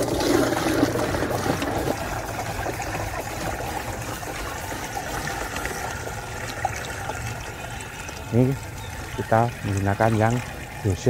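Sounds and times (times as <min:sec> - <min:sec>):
water pouring into a tank: 0:00.0 - 0:11.0.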